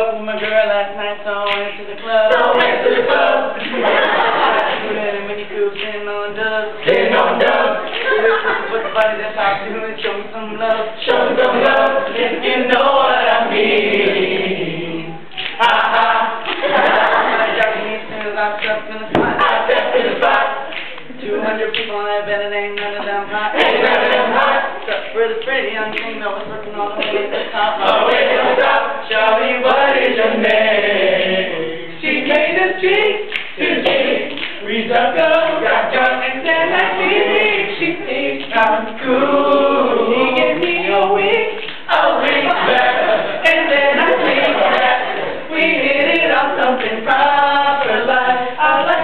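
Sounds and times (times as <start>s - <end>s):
a cappella group singing: 0.0s - 49.0s.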